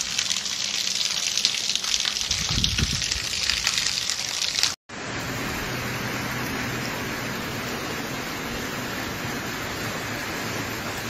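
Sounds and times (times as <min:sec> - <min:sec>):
steady rain on wet ground: 0:00.0 - 0:11.0.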